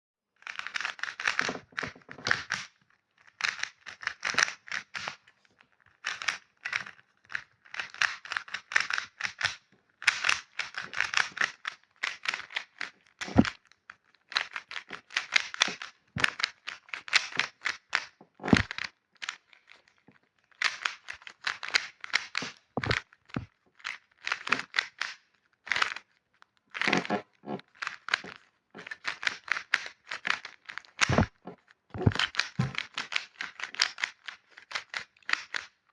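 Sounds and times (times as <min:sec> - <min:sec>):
cube puzzle clicking and crackling: 0:00.4 - 0:35.9.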